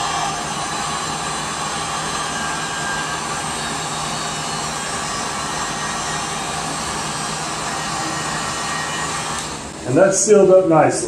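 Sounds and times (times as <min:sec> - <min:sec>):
heat gun fan humming: 0:00.0 - 0:10.8.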